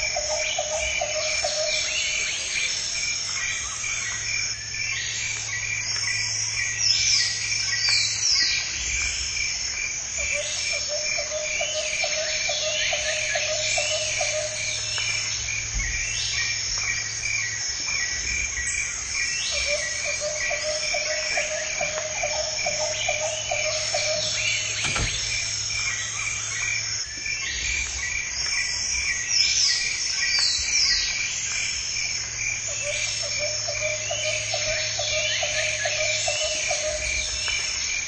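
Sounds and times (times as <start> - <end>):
high insect chirp: 0.0 - 38.0.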